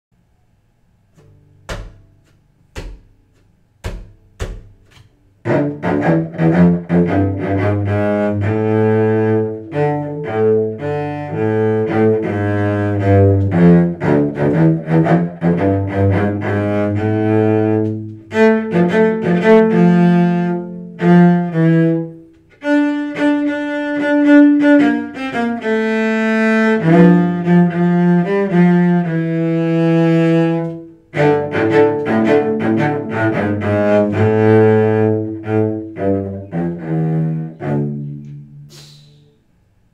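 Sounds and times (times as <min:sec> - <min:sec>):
solo cello bowed melody: 0:01.0 - 0:39.5.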